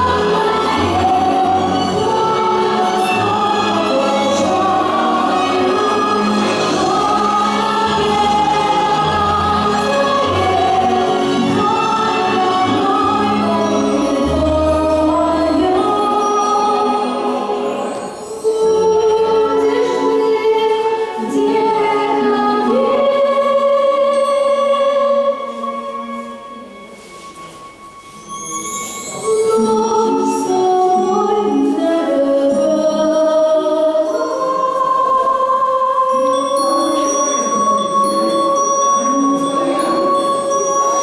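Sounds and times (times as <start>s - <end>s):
choir singing with accompaniment: 0.0s - 25.7s, 32.6s - 41.0s.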